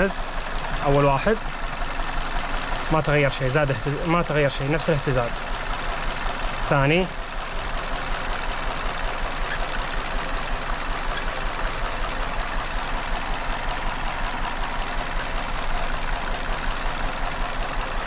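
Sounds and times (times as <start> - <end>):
car engine idling rough: 0.0 - 18.0.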